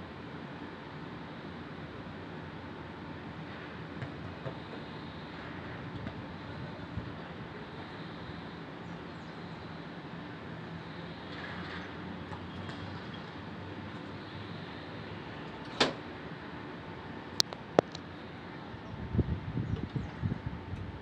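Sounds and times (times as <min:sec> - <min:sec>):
distant city noise: 0:00.0 - 0:21.0.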